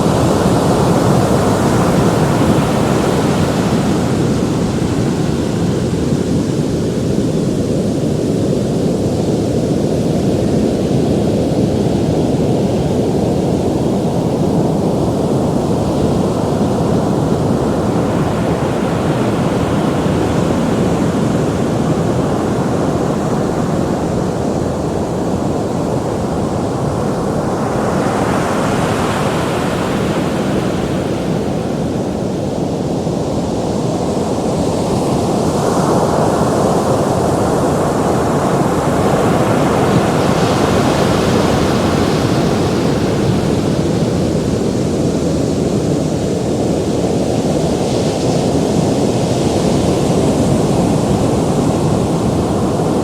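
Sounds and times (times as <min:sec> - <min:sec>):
wave breaking and washing in: 0:00.0 - 0:53.0
waves rushing: 0:00.0 - 0:53.0.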